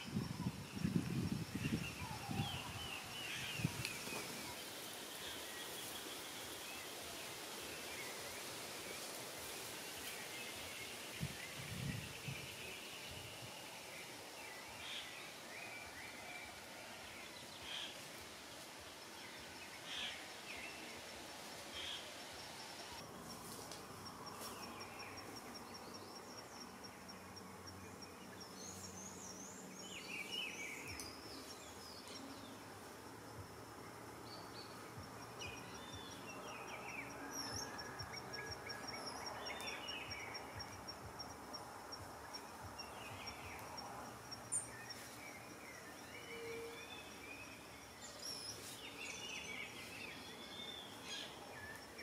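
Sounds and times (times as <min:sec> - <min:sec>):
insects buzzing: 0:00.0 - 0:52.0.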